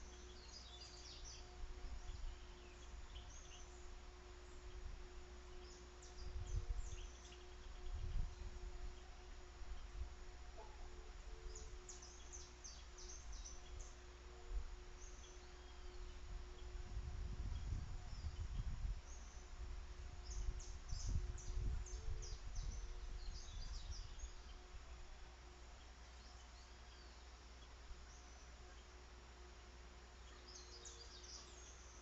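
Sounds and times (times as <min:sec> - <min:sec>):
birds chirping: 0:00.0 - 0:32.0
faint steady hum: 0:00.0 - 0:32.0.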